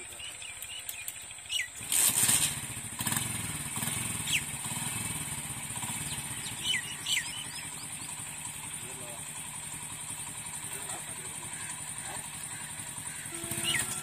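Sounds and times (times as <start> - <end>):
birds chirping: 0.0 - 1.9, 2.6 - 14.0
motorcycle engine starting and running: 0.0 - 14.0.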